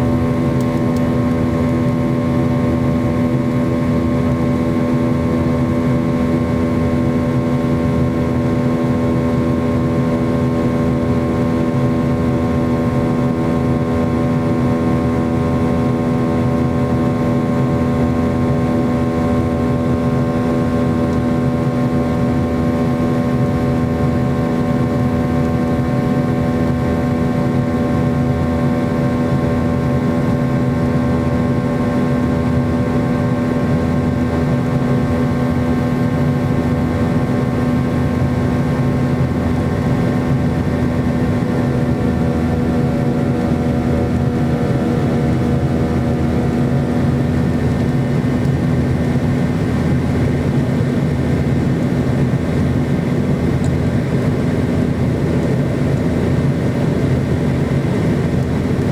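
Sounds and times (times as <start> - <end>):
jet engine drone inside cabin: 0.0 - 58.9.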